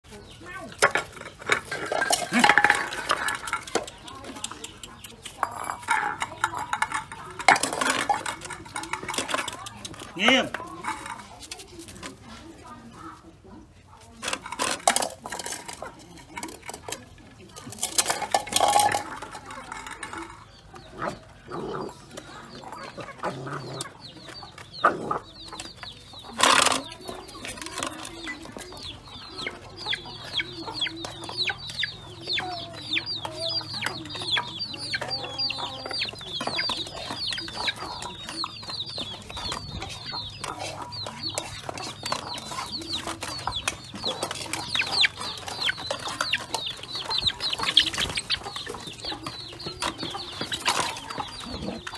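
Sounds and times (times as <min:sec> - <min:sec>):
chickens clucking: 0:00.0 - 0:51.9
chicks peeping: 0:00.0 - 0:51.9.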